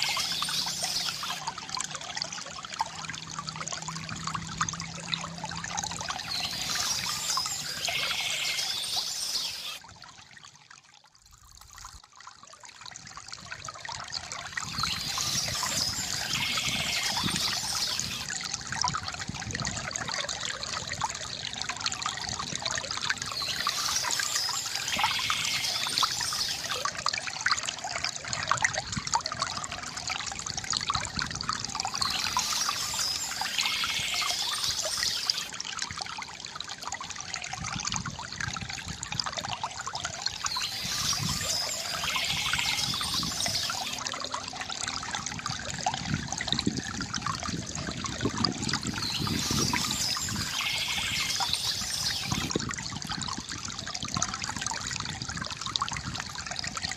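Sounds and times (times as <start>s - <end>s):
high-pitched water rush: 0.0s - 9.9s, 13.9s - 56.9s
stream babbling over stones: 0.0s - 56.9s.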